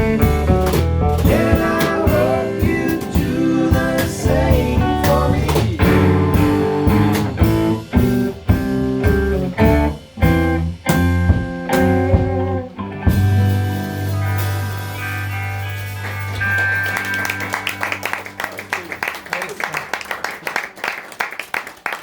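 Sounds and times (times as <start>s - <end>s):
drum kit: 0.0s - 19.3s
blues-rock band playing: 0.0s - 20.1s
guitar: 0.0s - 20.1s.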